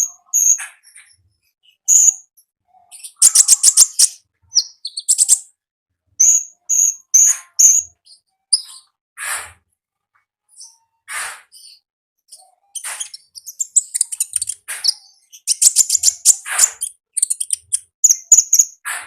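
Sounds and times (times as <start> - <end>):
bird chirping and trilling: 0.0 - 5.5, 6.2 - 8.9, 11.5 - 18.9.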